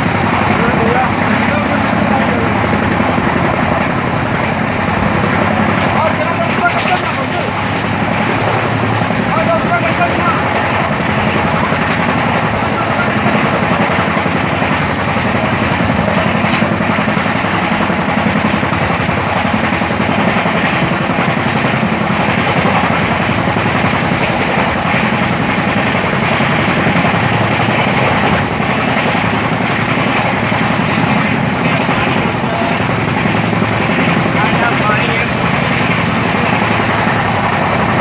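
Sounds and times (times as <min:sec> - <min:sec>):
train wheels rushing on rails: 0:00.0 - 0:38.0.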